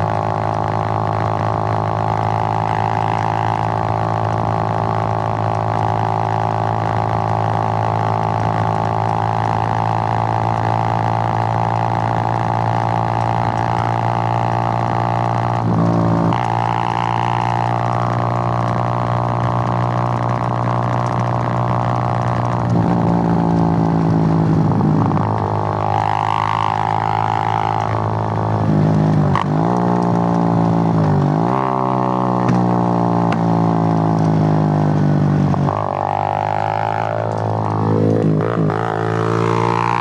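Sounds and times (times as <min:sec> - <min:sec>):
motorcycle engine droning: 0:00.0 - 0:40.0.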